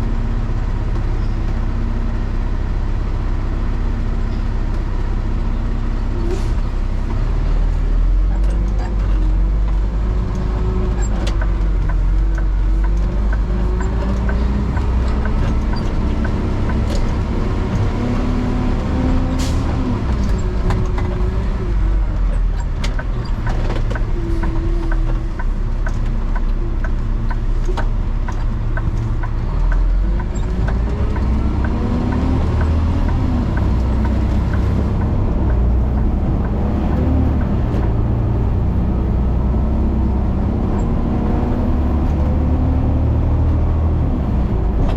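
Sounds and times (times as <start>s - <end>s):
truck drivetrain rumble: 0.0s - 44.9s.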